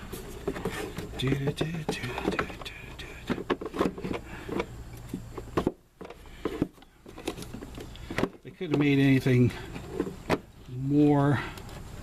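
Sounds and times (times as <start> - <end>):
steady low hum: 0.0 - 12.0
car parts clicking and knocking: 0.2 - 10.6.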